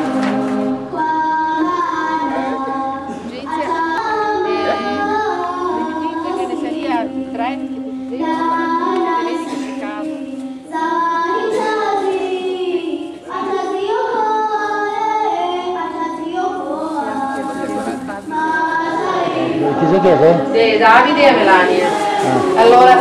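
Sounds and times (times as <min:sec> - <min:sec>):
children singing together: 0:00.0 - 0:23.0.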